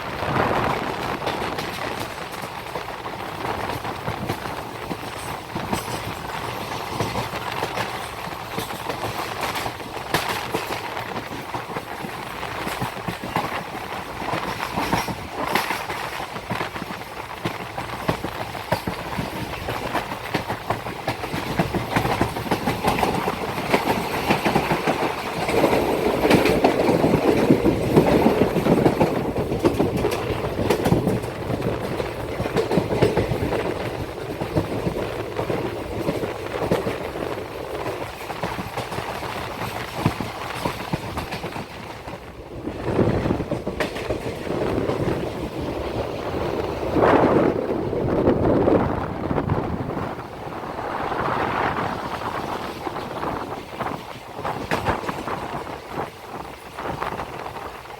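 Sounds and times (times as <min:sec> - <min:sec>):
train coaches rumbling: 0:00.0 - 0:57.9
wheels clattering over rail joints: 0:00.0 - 0:57.9.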